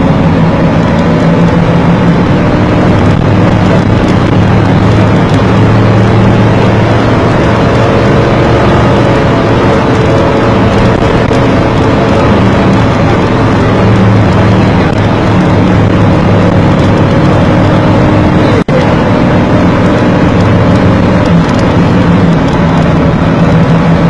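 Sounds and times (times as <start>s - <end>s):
road and wind noise: 0.0s - 24.0s
vehicle engine running: 0.0s - 24.0s.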